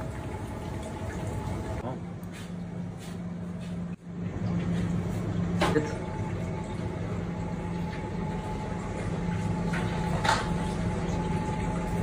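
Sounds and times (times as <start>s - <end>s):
kitchen machinery humming: 0.0s - 12.0s.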